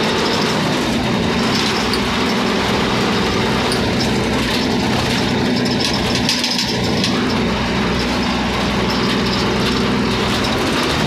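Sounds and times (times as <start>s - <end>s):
road and traffic noise: 0.0s - 11.0s
vehicle engine running: 0.0s - 11.0s.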